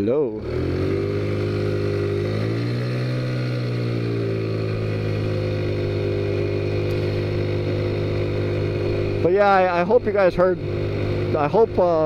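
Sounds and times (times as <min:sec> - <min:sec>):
minibike engine running: 0:00.3 - 0:12.0.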